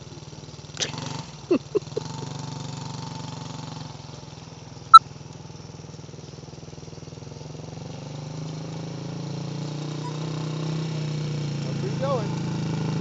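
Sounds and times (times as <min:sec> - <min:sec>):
small quad engine running: 0:00.0 - 0:13.0.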